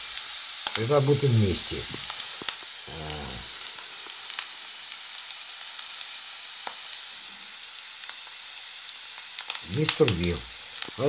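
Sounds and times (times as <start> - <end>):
crackles and pops: 0.0 - 11.0
potatoes sizzling in a pan: 0.0 - 11.0.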